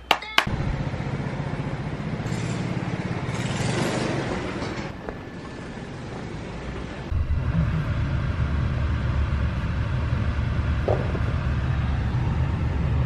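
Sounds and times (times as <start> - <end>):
vehicle passing: 0.5 - 13.0.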